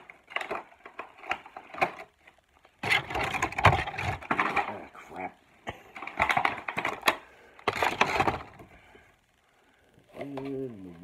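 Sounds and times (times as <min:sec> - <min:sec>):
packaging clicks and crinkles: 0:00.0 - 0:09.0
plastic crackling and rustling: 0:00.0 - 0:11.0.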